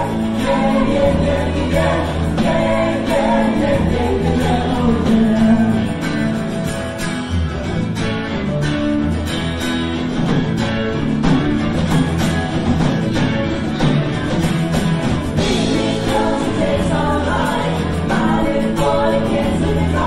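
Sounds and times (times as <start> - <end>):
drum kit: 0.0 - 20.0
electric bass: 0.0 - 20.0
electric guitar: 0.0 - 20.0.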